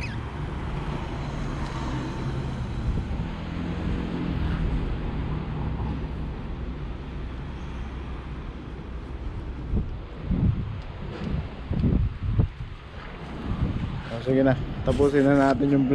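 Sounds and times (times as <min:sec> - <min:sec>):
road traffic rumble: 0:00.0 - 0:15.9.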